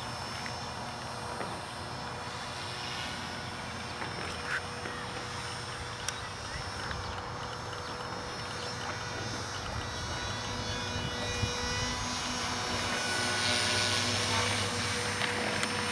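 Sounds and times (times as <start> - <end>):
rc helicopter motor whine: 0.0 - 15.9.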